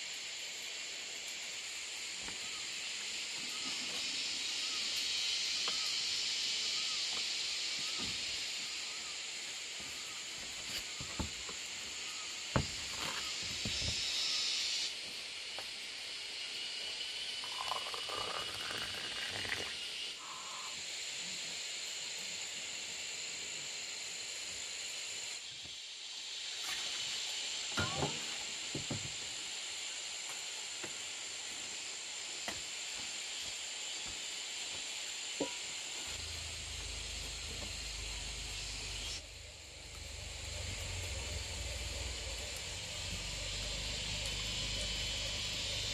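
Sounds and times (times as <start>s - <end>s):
forest insects droning: 0.0s - 45.9s.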